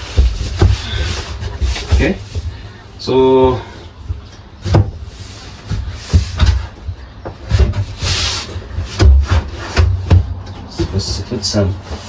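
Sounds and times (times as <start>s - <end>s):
board scraping: 0.0s - 2.8s, 4.6s - 12.0s.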